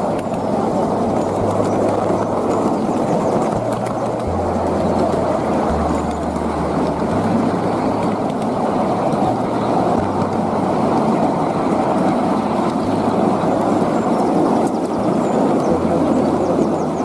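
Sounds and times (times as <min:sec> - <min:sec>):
miniature train rumbling on track: 0:00.0 - 0:17.0.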